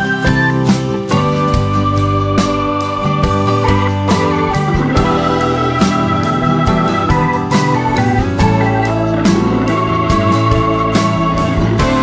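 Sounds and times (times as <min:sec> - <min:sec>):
keyboard chords with steady beat: 0:00.0 - 0:12.0.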